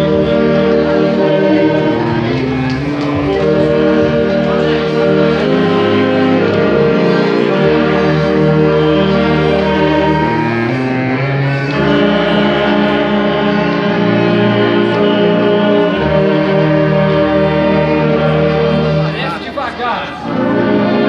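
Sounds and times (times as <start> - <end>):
orchestra playing slow chords: 0.0 - 21.0.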